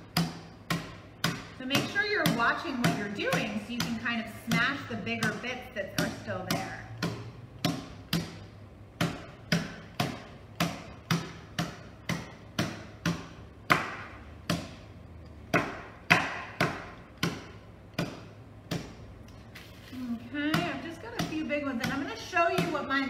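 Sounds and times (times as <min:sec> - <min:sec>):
rolling pin knocking on pretzels: 0:00.0 - 0:19.2, 0:20.3 - 0:23.0.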